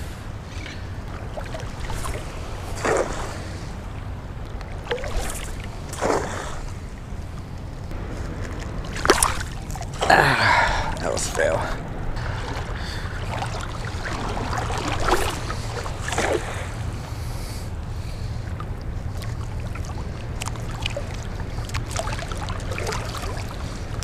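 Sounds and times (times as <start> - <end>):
water noise: 0.0 - 24.0
wind rumble on microphone: 0.0 - 24.0.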